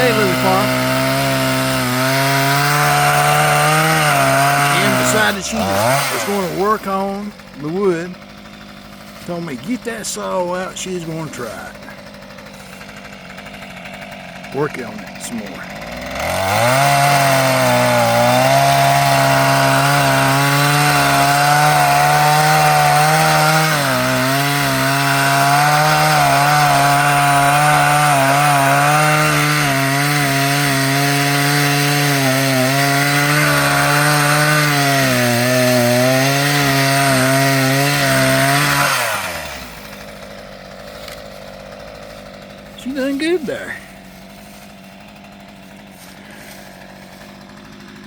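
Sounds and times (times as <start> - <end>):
chainsaw cutting wood: 0.0 - 48.0.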